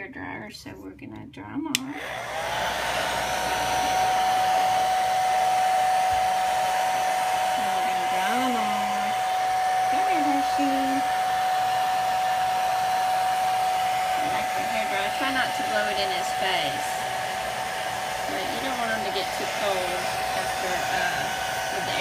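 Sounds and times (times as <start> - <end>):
hair dryer running: 1.7 - 22.0.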